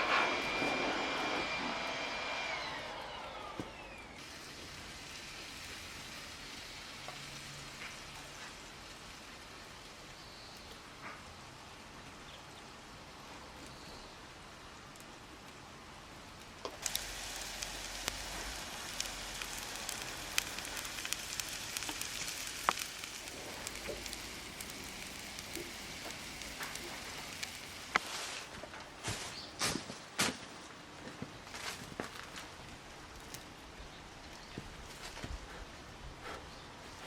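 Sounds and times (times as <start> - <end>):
faint hiss: 0.0 - 29.8
sizzling with crackles and pops: 0.0 - 37.0.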